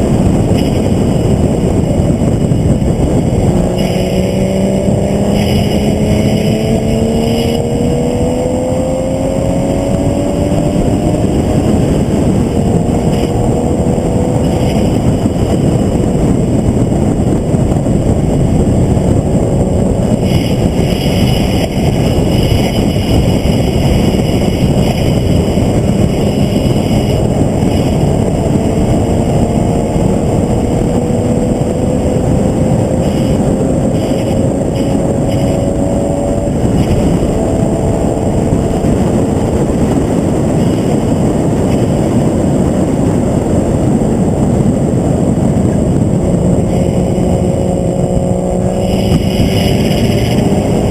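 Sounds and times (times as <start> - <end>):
race car engine accelerating: 0.0 - 17.0, 17.8 - 50.9
rushing wind noise: 0.0 - 50.9.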